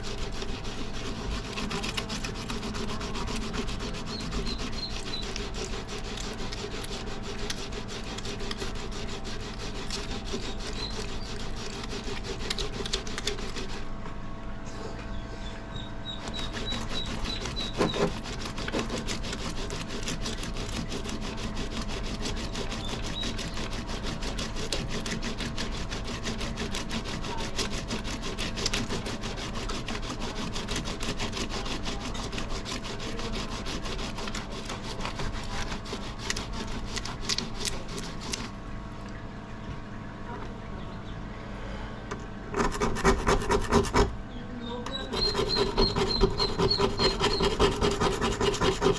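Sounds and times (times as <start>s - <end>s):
scraping rust off axe head: 0.0s - 13.8s, 16.2s - 38.5s, 44.9s - 48.9s.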